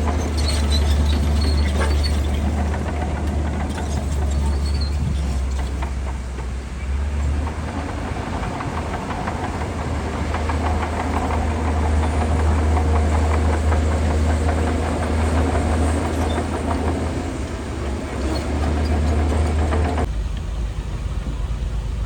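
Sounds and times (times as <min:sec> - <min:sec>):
bulldozer diesel engine droning: 0:00.0 - 0:22.0
steel tracks clanking: 0:00.0 - 0:22.0.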